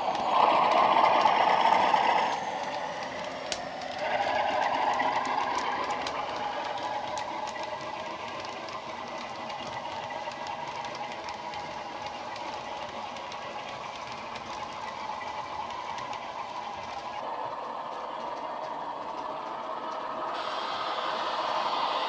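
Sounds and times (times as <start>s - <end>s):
model wheels clicking on track: 0.0s - 20.4s
model train diesel engine sound: 0.0s - 22.0s.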